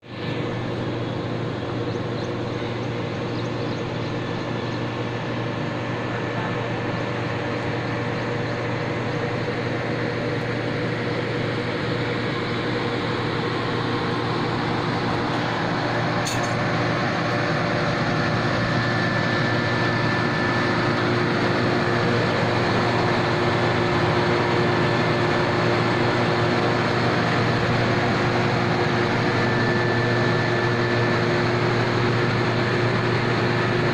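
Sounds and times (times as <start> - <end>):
heat pump humming: 0.0 - 33.9.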